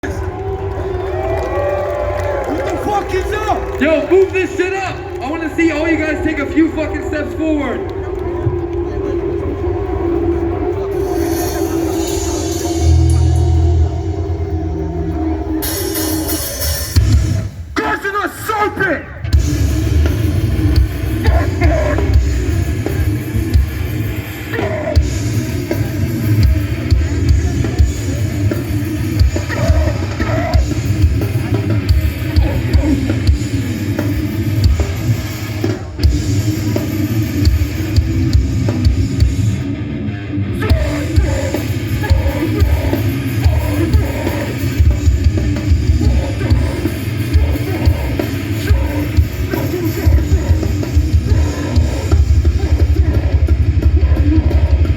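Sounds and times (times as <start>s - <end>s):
heavy fast drumming: 0.0s - 8.4s, 9.3s - 54.9s
distorted guitar and bass: 3.3s - 54.9s.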